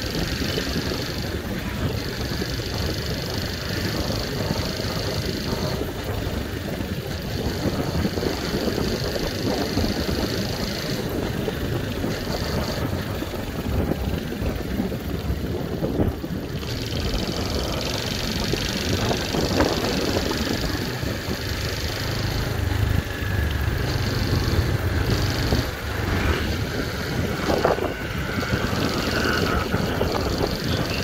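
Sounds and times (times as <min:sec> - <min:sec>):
motorbike engine running: 0:00.0 - 0:31.0
road and wind noise: 0:00.0 - 0:31.0.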